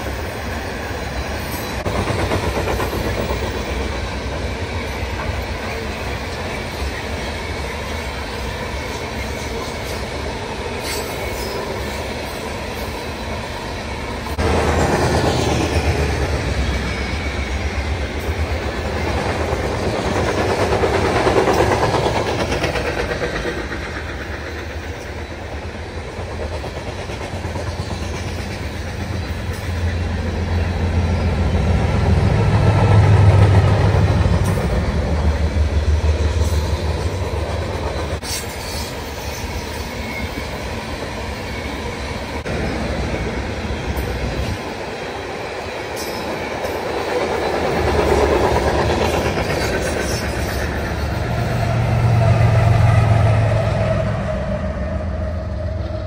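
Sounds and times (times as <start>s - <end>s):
train wheels clacking on rails: 0.0s - 54.2s
diesel locomotive drone: 0.0s - 56.0s.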